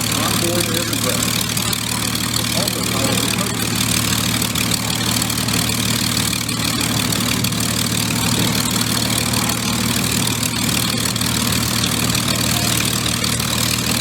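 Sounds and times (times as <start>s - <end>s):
airplane radial engine droning: 0.0s - 14.0s.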